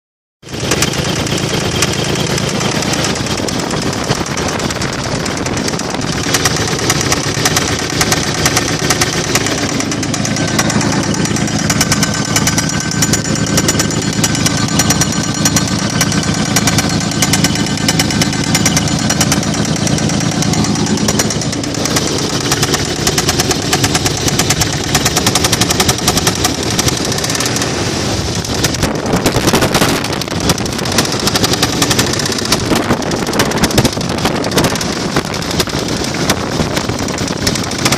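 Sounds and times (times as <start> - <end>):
car engine running: 0.4 - 37.9
rapid engine knocking: 0.4 - 37.9.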